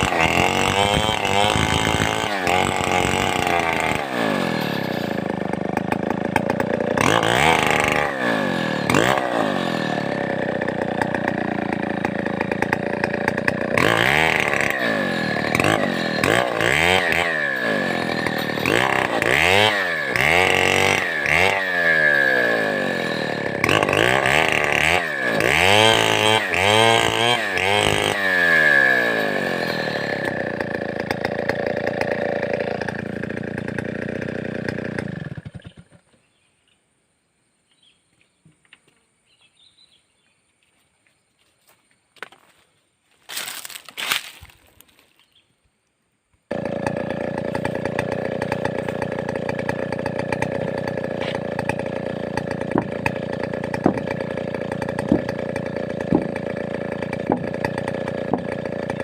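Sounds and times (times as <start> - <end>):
chainsaw running: 0.0 - 36.2, 43.2 - 45.2, 46.5 - 59.0.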